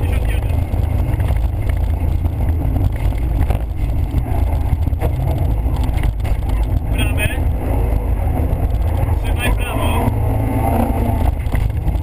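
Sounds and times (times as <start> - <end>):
car engine running hard: 0.0 - 12.0
road and wind noise: 0.0 - 12.0.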